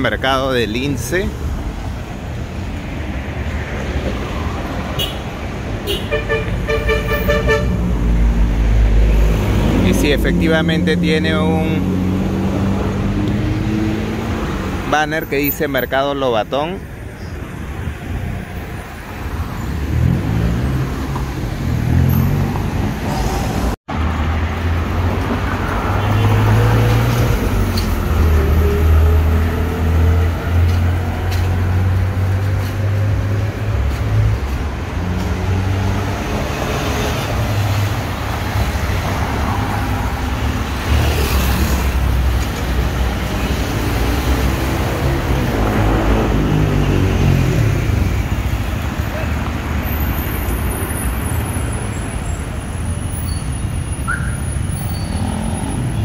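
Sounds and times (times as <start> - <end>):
traffic engines passing: 0.0 - 56.0.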